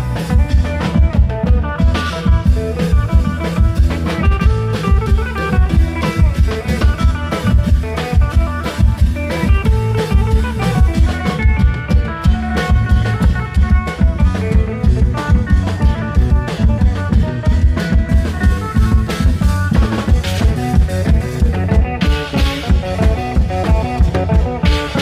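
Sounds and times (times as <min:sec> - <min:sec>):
long drums dance beat: 0:00.0 - 0:25.0
plucked string melody: 0:00.0 - 0:25.0.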